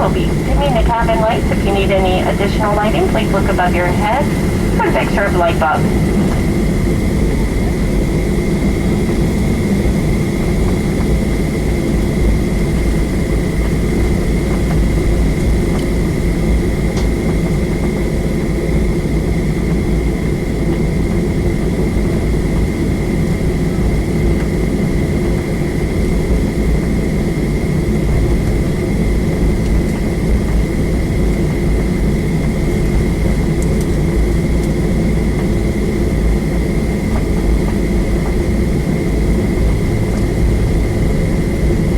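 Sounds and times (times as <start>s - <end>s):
jet cabin rumble: 0.0s - 41.9s
jet engine high whine: 0.0s - 41.9s.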